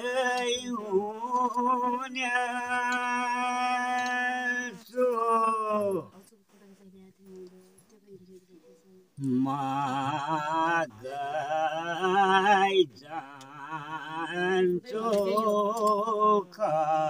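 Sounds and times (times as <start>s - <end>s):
old man singing folk song: 0.0s - 6.2s, 9.2s - 17.0s.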